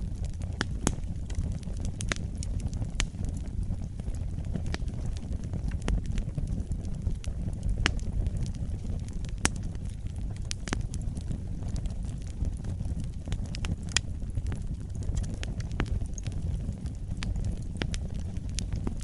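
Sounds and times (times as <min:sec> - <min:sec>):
fire flames rumbling: 0:00.0 - 0:19.0
wood fire crackling and popping: 0:00.0 - 0:19.0.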